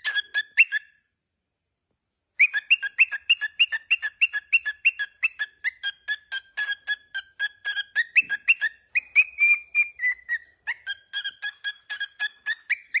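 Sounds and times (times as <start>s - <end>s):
cockatiel whistling chirpy notes: 0.0s - 1.0s, 2.4s - 13.0s.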